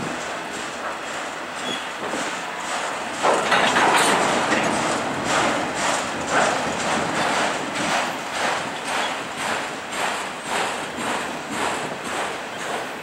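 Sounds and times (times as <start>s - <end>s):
freight cars rumbling and clattering: 0.0s - 13.0s.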